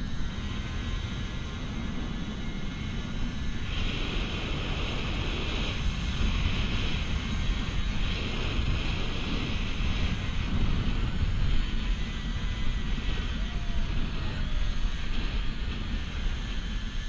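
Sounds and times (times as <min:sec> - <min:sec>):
low rumble: 0:00.0 - 0:17.0
trolley hissing along cable: 0:00.0 - 0:17.0
wind buffeting microphone: 0:00.0 - 0:17.0.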